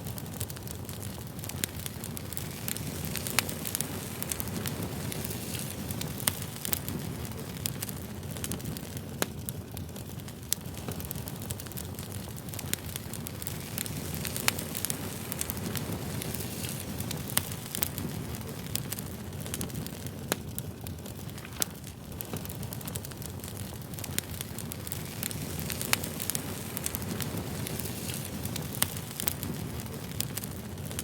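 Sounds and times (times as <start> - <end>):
burning wood popping: 0.0 - 31.0
campfire crackling: 0.0 - 31.0.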